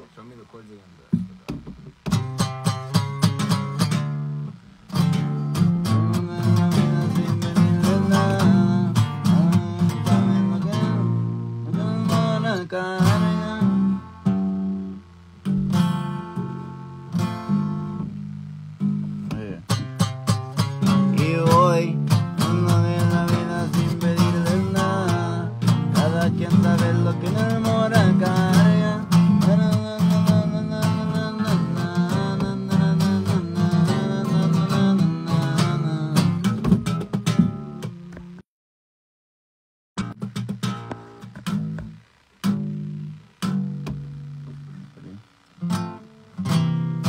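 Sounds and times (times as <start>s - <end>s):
acoustic guitar strumming: 1.1s - 38.4s, 40.0s - 47.0s.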